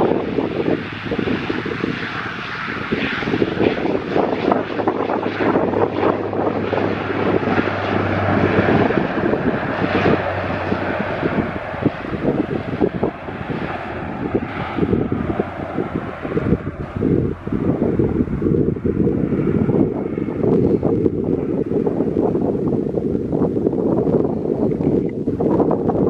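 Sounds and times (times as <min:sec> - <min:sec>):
airliner engines running: 0:00.0 - 0:26.0
wind buffeting microphone: 0:00.0 - 0:26.0.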